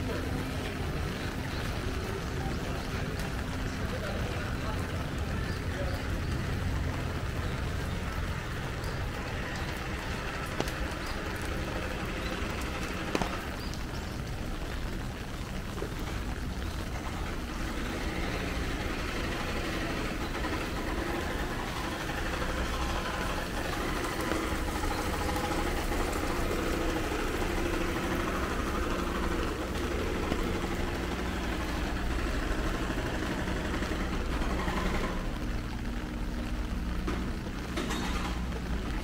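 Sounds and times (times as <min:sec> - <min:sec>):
heavy rain on street: 0:00.0 - 0:39.0
road traffic rumble: 0:00.0 - 0:39.0.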